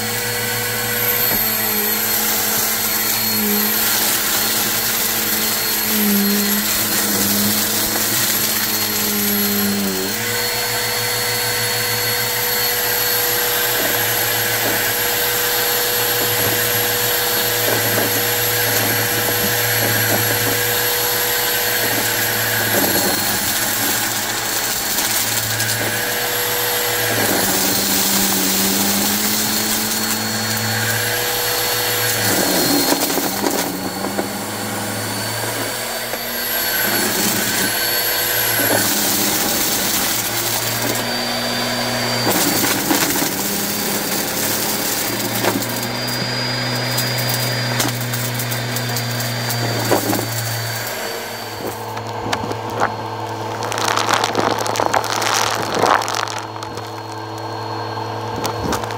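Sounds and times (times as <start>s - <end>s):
upright vacuum running: 0.0s - 58.9s
debris being sucked up: 0.2s - 58.9s.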